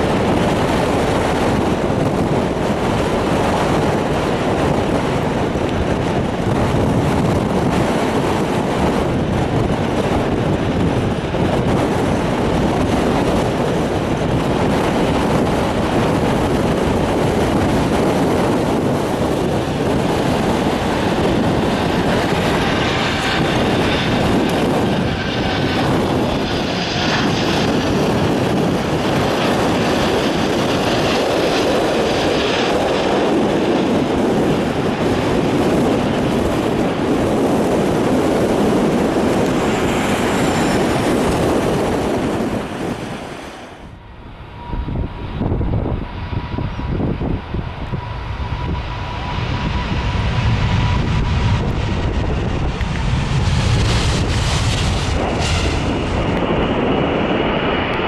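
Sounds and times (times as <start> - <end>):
jet airliner engine noise: 0.0 - 58.0
wind buffeting microphone: 0.0 - 58.0.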